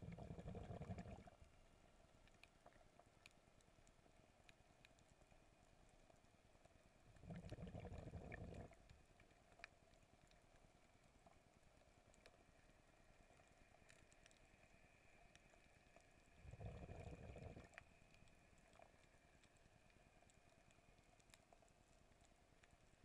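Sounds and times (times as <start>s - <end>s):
faint ticks: 0.1s - 23.0s.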